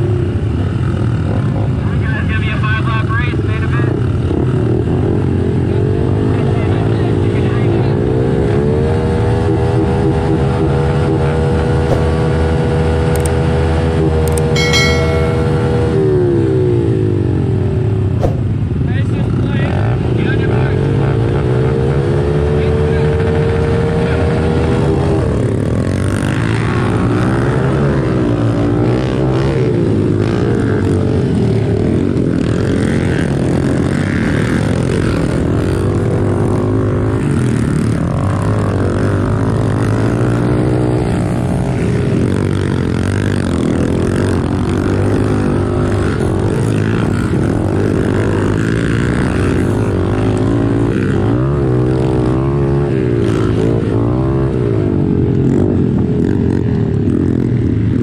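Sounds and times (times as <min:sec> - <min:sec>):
pit bike engines revving: 0:00.0 - 0:58.0.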